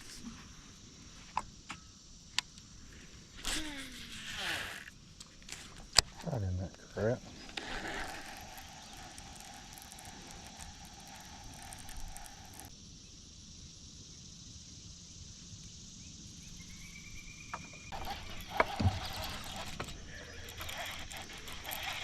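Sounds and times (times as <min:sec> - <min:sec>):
insects droning: 0:00.0 - 0:22.0
low outdoor hiss: 0:00.0 - 0:22.0.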